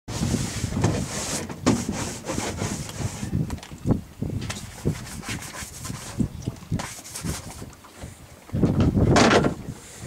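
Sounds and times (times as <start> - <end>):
microphone rubbing and thumping: 0.1 - 9.8.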